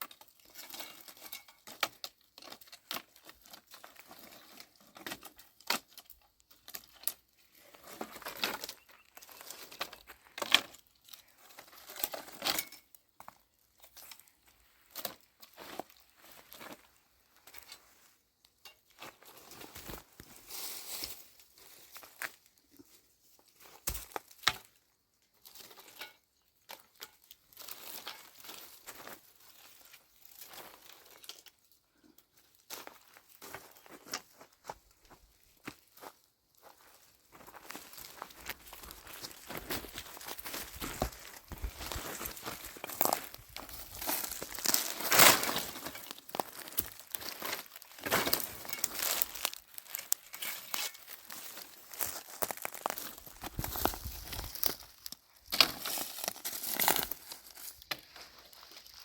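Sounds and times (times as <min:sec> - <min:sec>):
rustling and crinkling handling: 0:00.0 - 0:59.0.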